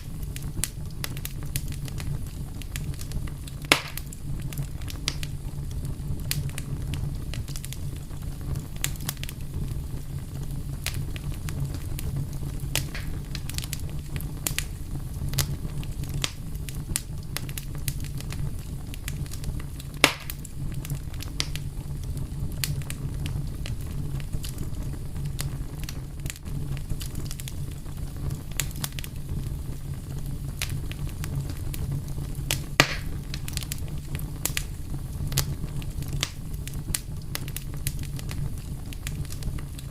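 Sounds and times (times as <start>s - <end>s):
fire crackling: 0.0s - 39.9s
fire pops: 0.0s - 39.9s.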